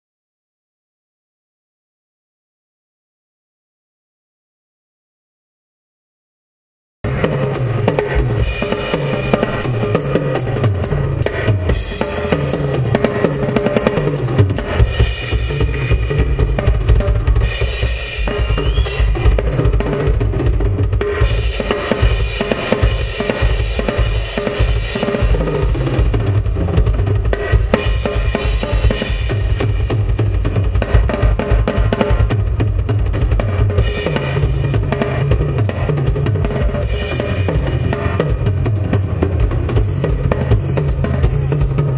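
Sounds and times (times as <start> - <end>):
rock drum solo: 7.0 - 41.9.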